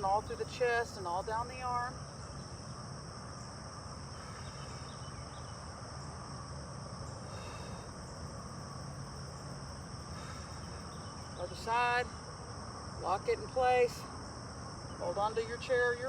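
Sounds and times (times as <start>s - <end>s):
insects chirring: 0.0s - 16.0s
low steady hum: 0.0s - 16.0s.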